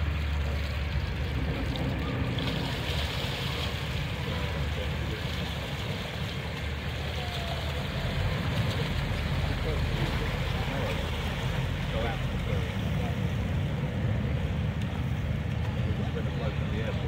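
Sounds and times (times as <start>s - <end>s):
diesel boat engine rumbling: 0.0s - 17.0s
water wash: 0.0s - 17.0s.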